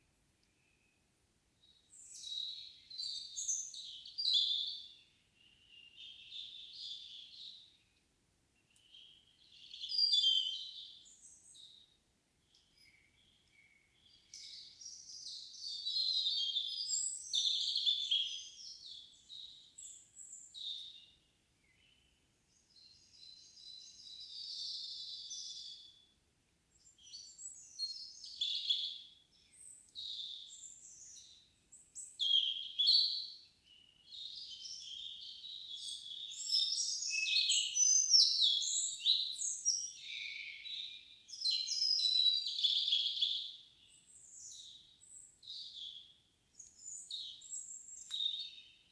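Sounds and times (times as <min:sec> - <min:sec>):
songbirds twittering: 0:01.7 - 0:07.9, 0:08.6 - 0:26.0, 0:26.8 - 0:48.9.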